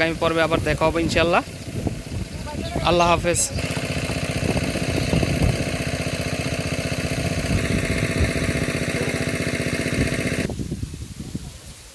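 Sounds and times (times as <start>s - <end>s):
water pump engine running: 0.0s - 10.6s.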